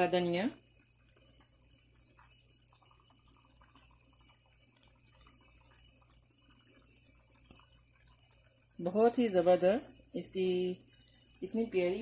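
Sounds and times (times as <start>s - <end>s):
gravy sizzling and bubbling: 0.0s - 12.0s.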